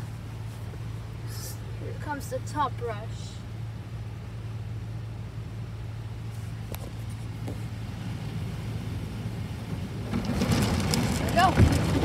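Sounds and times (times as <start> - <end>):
car wash low hum: 0.0 - 12.0.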